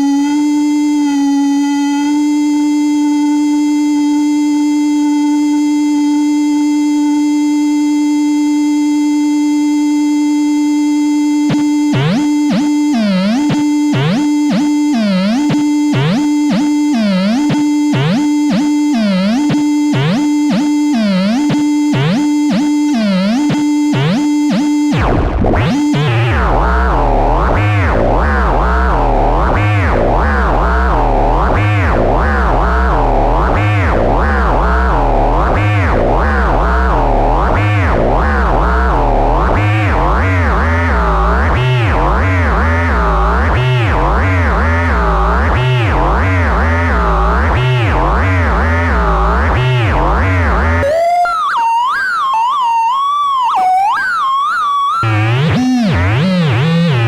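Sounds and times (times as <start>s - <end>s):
bass-heavy synthesizer wobble: 0.0s - 57.0s
buzzy synthesizer tone with pitch swoops: 0.0s - 57.0s.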